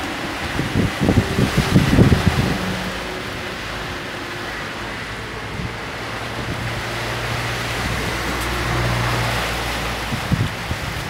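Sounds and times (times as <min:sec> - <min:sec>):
heavy rain: 0:00.0 - 0:11.0
wind rumbling on microphone: 0:00.0 - 0:11.0.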